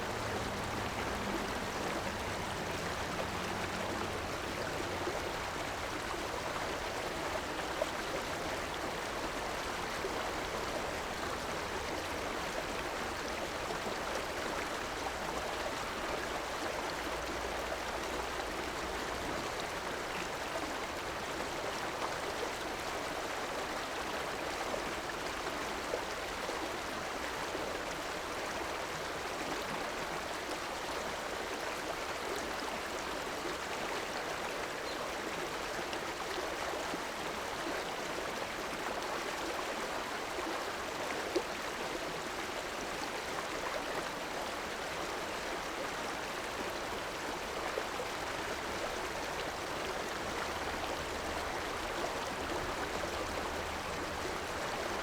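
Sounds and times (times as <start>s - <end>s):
river water rushing and babbling: 0.0s - 55.0s.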